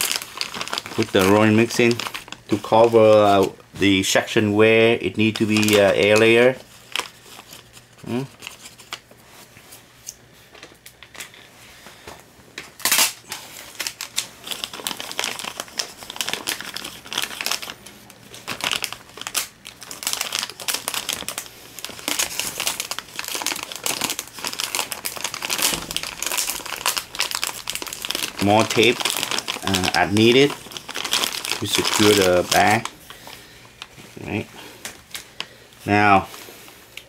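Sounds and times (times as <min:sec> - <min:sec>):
plastic bag crinkling: 0:00.0 - 0:09.5, 0:12.8 - 0:37.0.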